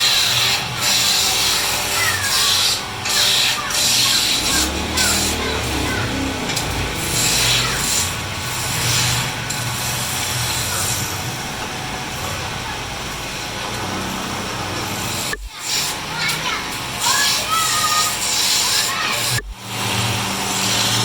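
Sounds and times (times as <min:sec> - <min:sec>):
tool cutting spinning wood: 0:00.0 - 0:11.8, 0:14.0 - 0:21.0
wood lathe humming: 0:00.0 - 0:21.0.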